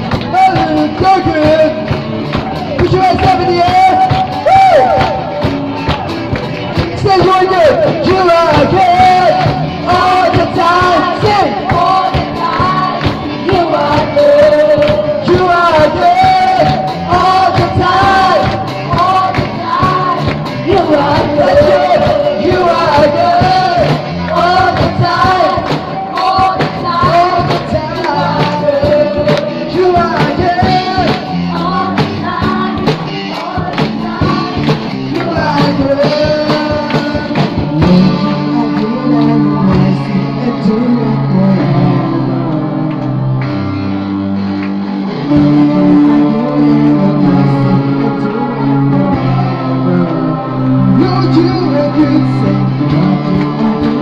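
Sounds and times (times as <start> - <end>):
drums keeping a steady beat: 0.0 - 47.8, 49.0 - 54.0
guitars: 0.0 - 54.0
keyboard playing: 0.0 - 54.0
voices singing together: 2.4 - 44.4, 45.0 - 54.0.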